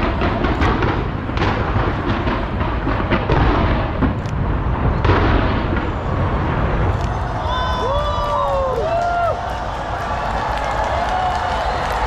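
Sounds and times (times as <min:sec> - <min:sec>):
low rumble: 0:00.0 - 0:10.6
fireworks bangs and crackles: 0:00.0 - 0:12.0.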